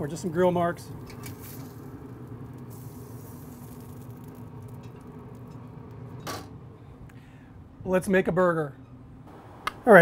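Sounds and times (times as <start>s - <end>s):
grill running with hum and hiss: 0.0s - 10.0s.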